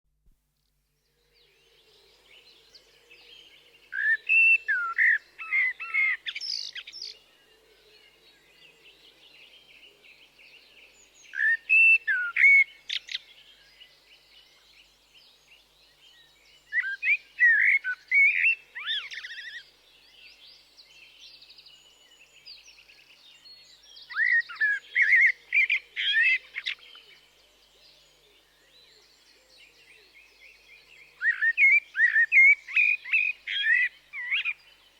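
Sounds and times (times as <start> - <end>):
blackbird singing: 1.1 - 34.9.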